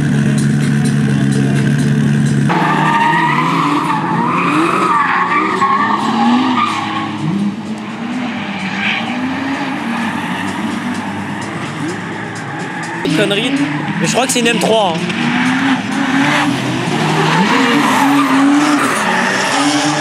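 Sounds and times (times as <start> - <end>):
car engine revving: 0.0 - 20.0
tyres squealing and skidding: 0.4 - 20.0.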